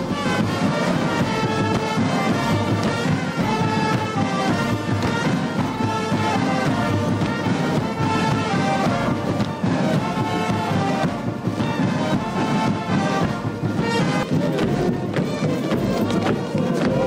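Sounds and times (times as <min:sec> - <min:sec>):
brass music: 0:00.0 - 0:17.0.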